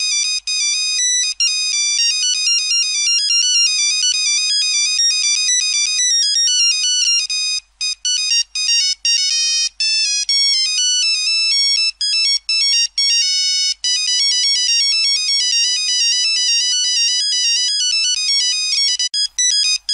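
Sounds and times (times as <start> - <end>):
mobile phone beeping ringtone: 0.0 - 19.9.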